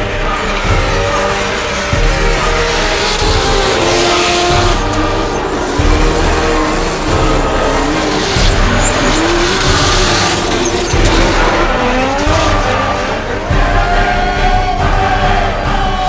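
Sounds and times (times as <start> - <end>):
car engines revving: 0.0 - 16.0
tyres skidding and squealing: 0.0 - 16.0.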